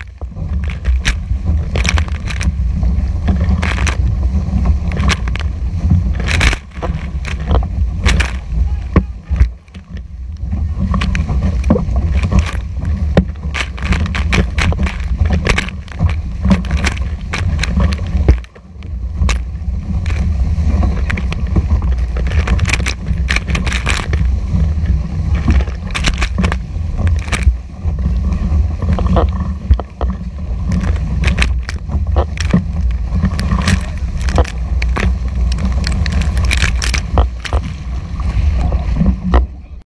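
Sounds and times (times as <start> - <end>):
whitewater rushing: 0.0 - 39.8
wind rumble on microphone: 0.0 - 39.8.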